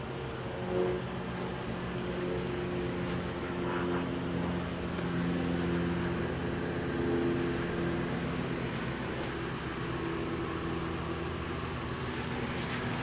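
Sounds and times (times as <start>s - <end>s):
low machine hum: 0.0s - 13.0s
steady shifting tones: 0.0s - 13.0s.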